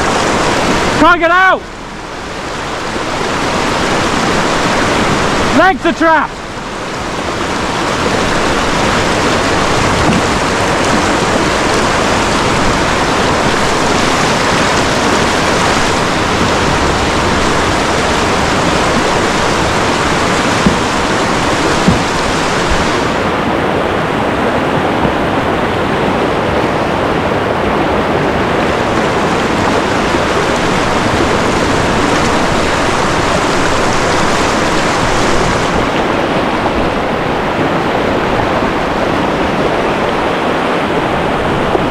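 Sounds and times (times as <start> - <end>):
whitewater rushing: 0.0 - 41.9.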